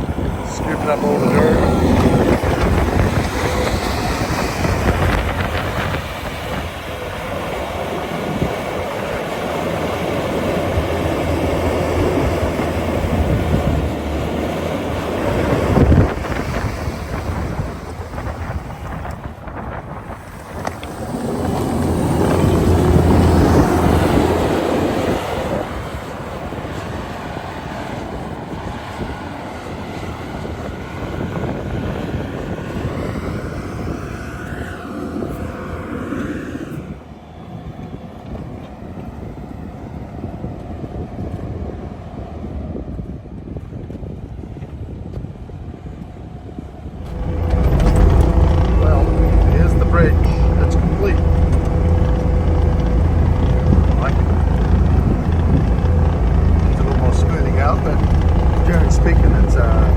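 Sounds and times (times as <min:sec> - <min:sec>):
loader engine under load: 0:00.0 - 0:39.3, 0:46.9 - 0:59.9.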